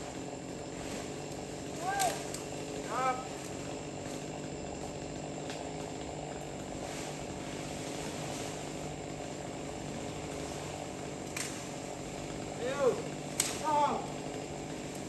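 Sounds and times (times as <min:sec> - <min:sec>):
motor engine running steadily: 0:00.0 - 0:15.0.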